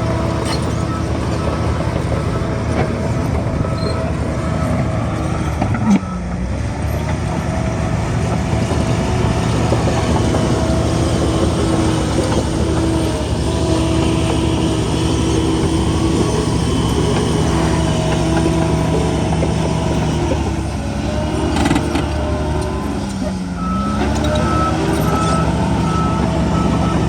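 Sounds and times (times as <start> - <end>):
heavy diesel machinery running: 0.0 - 27.0
machinery whine: 0.0 - 27.0.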